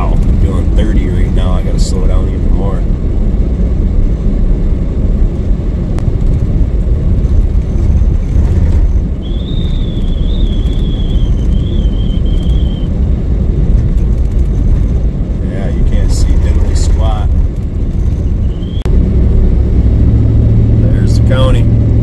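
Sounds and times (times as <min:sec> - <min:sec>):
truck engine and tyres rumbling: 0:00.0 - 0:22.0.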